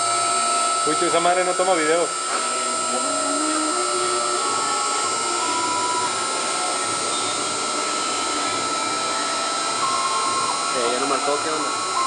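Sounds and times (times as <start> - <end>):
router spindle whining: 0.0 - 12.0
stepper motors singing: 0.0 - 12.0.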